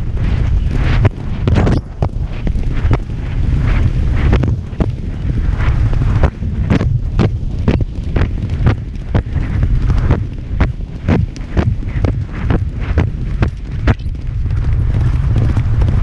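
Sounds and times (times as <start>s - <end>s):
wind buffeting microphone: 0.0s - 16.0s
hoofbeats on turf: 0.2s - 16.0s.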